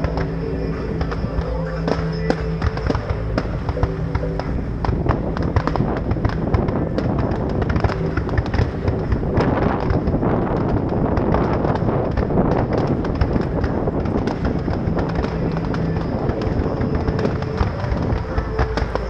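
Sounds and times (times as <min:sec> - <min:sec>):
fireworks bangs and crackles: 0:00.0 - 0:19.0
loud music: 0:00.0 - 0:19.0.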